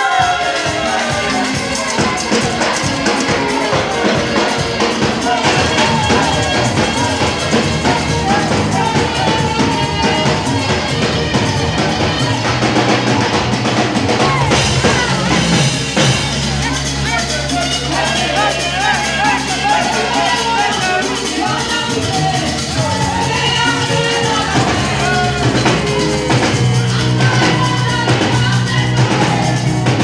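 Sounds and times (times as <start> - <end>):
drum kit beat: 0.0 - 30.0
gospel band music: 0.0 - 30.0.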